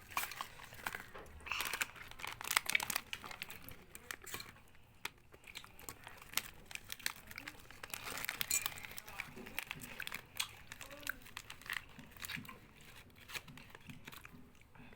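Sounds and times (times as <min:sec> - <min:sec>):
chewing crunchy food: 0:00.0 - 0:14.9.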